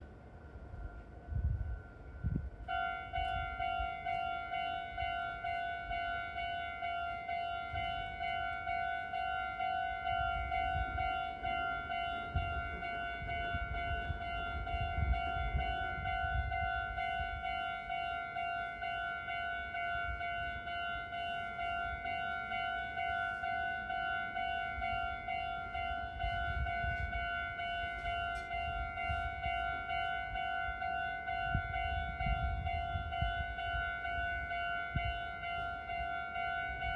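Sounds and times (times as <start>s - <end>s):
level-crossing warning bell: 0.0s - 36.9s.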